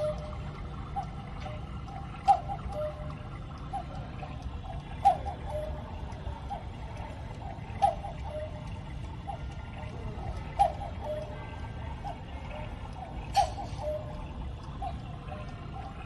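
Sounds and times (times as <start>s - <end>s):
clock ticking: 0.0s - 16.0s
sharp clock click: 0.0s - 16.0s.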